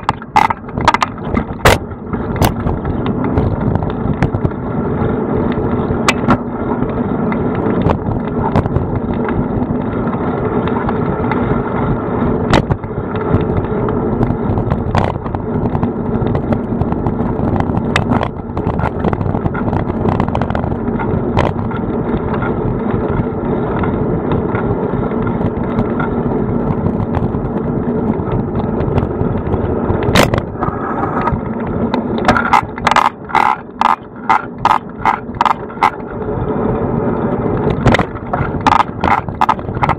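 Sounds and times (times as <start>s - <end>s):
bicycle riding rumble: 0.0s - 39.9s.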